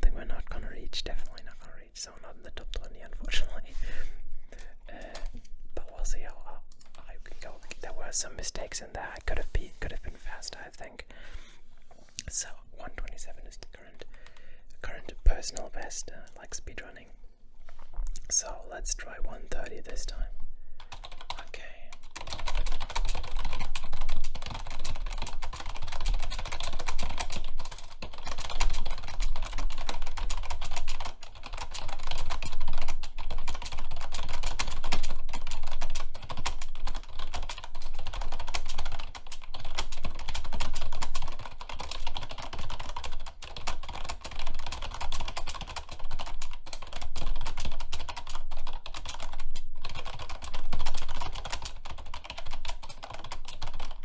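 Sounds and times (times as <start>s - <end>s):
fast typing on keyboard: 0.0s - 10.7s, 12.4s - 16.4s, 19.7s - 54.0s.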